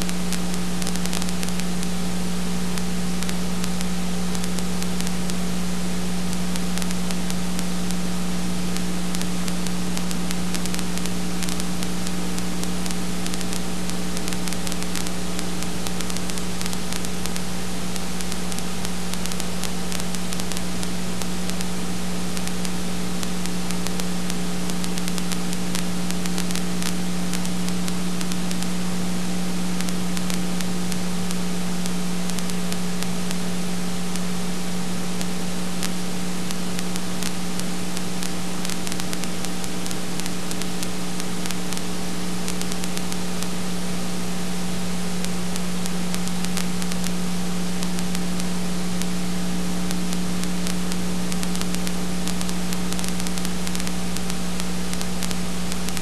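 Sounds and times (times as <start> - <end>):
crackling clicks: 0.0 - 56.0
electrical hum: 0.0 - 56.0
steady hiss: 0.0 - 56.0.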